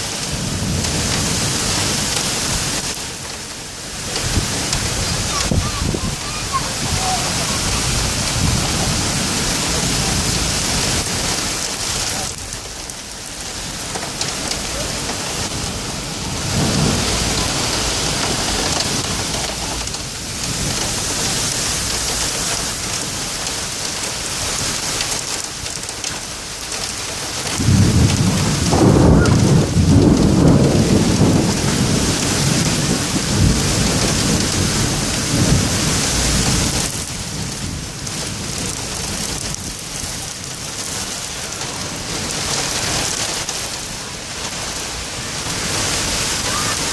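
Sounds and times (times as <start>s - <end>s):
rolling thunder: 0.0s - 3.2s, 3.8s - 23.3s, 27.5s - 46.9s
heavy rain pouring: 0.0s - 46.9s.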